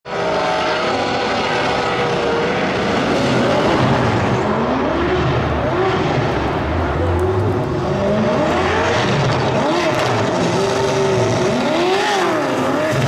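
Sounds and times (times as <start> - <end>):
car engines revving: 0.0 - 13.0
dense rushing noise: 0.8 - 13.0.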